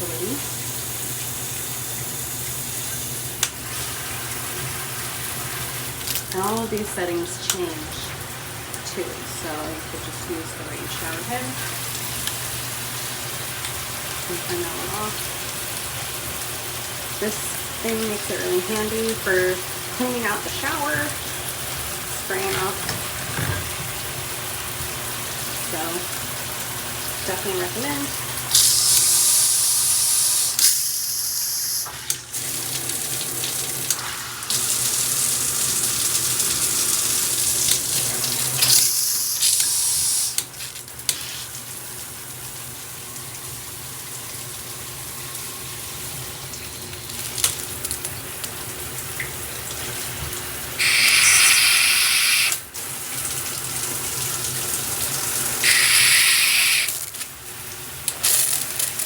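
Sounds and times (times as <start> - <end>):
shower water spraying: 0.0 - 41.8, 47.0 - 59.0.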